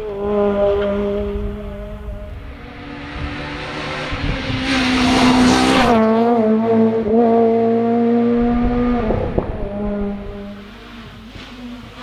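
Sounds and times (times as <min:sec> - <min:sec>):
rally car engine high revs: 0:00.0 - 0:12.0.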